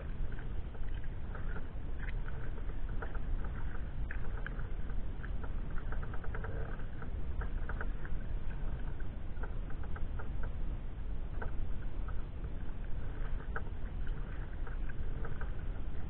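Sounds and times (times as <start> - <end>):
water dripping off paddle blades: 0.0 - 10.6, 11.3 - 16.0
steady low rumble: 0.0 - 16.0.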